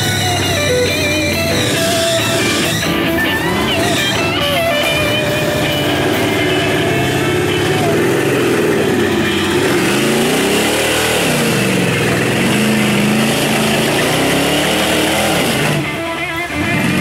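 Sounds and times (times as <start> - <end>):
truck engine revving hard: 0.0 - 17.0.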